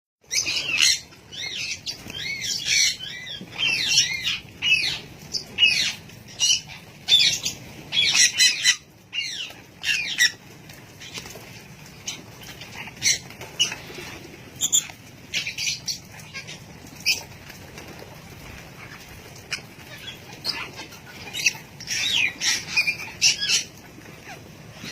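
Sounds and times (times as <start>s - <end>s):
parrots squawking and chirping: 0.2s - 24.9s.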